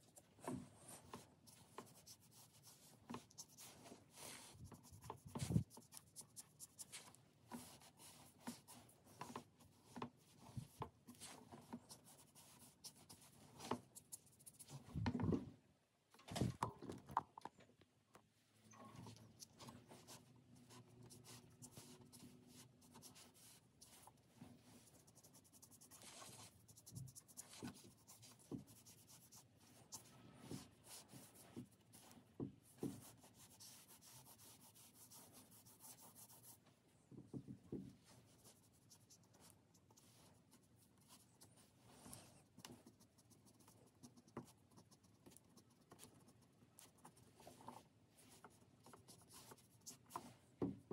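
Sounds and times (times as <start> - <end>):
pen scratching on paper: 0.9 - 14.8, 19.4 - 36.6, 38.3 - 50.4.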